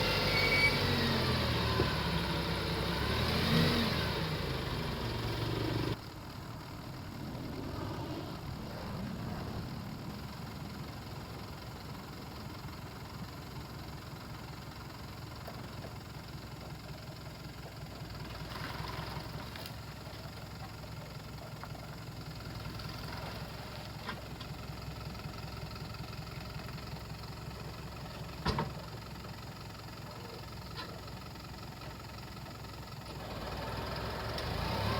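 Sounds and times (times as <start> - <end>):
truck diesel engine rumbling: 0.0 - 34.9.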